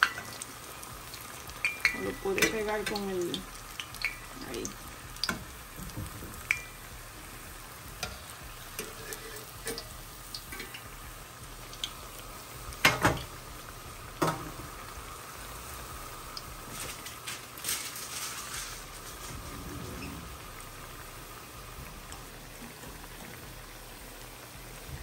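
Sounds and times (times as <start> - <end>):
dough sizzling in hot oil: 0.0 - 25.0.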